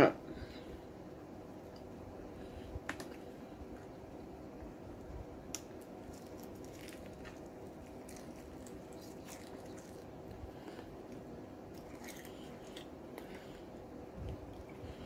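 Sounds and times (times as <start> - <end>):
steady low hum: 0.0 - 15.0
soft wet chewing: 1.6 - 4.3, 4.9 - 15.0.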